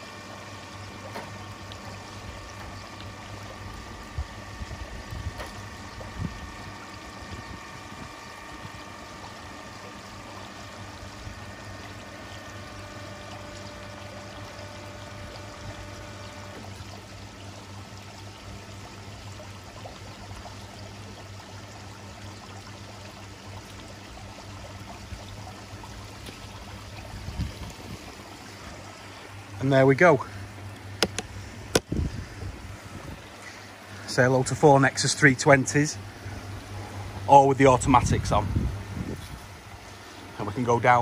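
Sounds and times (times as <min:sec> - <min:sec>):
low electrical hum: 0:00.0 - 0:41.0
water running and trickling: 0:00.0 - 0:41.0.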